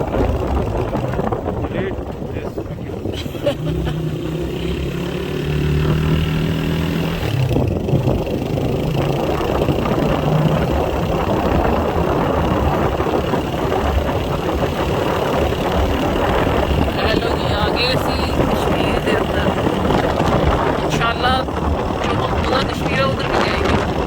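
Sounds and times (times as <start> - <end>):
motorcycle engine running: 0.0 - 24.0
road noise: 0.0 - 24.0
rushing wind: 0.0 - 24.0.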